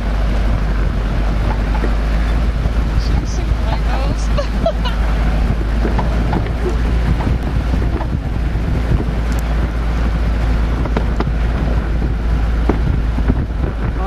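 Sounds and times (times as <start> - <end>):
vehicle engine rumbling: 0.0 - 14.0
wind buffeting microphone: 0.0 - 14.0.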